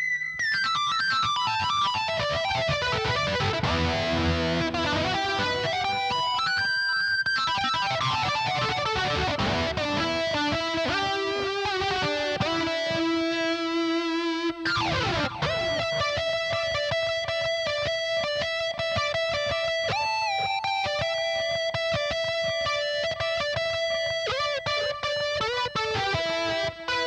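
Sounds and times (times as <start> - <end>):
synth keyboard guitar-like lead: 0.0 - 27.0.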